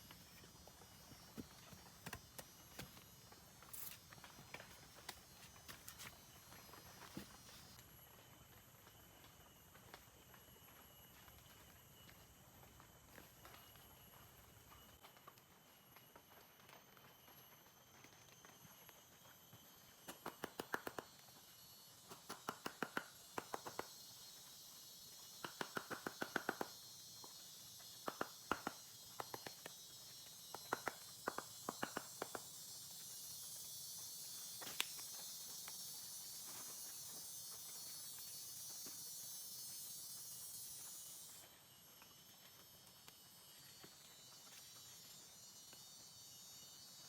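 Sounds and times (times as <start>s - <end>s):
high steady insect hiss: 0.0s - 47.0s.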